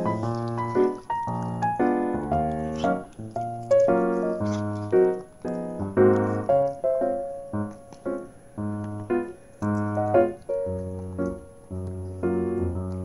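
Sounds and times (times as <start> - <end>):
light keyboard tune: 0.0 - 13.0.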